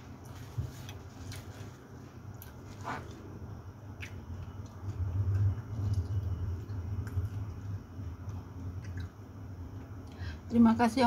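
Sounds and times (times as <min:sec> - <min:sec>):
low muffled rumble: 0:00.0 - 0:11.0.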